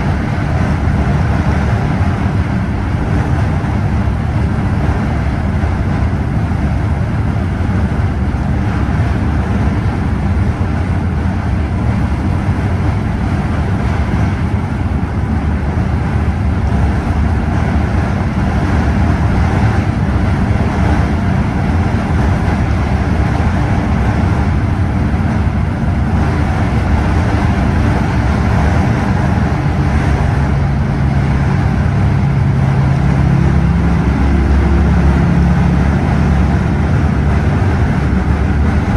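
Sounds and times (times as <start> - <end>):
coach engine drone: 0.0 - 38.9
road and tyre noise: 0.0 - 38.9.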